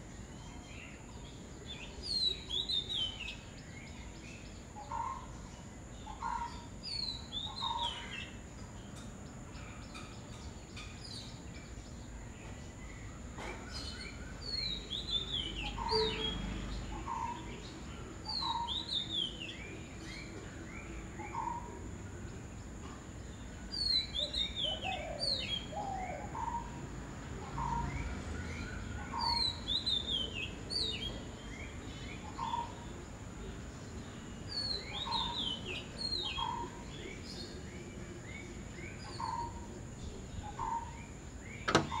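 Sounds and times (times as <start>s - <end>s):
birds chattering: 0.0s - 42.0s.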